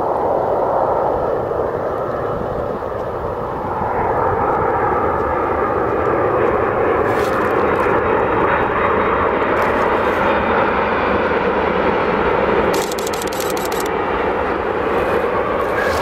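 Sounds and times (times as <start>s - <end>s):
jet airliner engines rushing: 0.0s - 16.0s.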